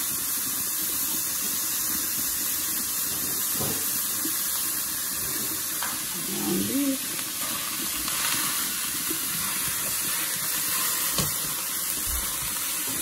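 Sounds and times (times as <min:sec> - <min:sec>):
meat sizzling in a pot: 0:00.0 - 0:13.0.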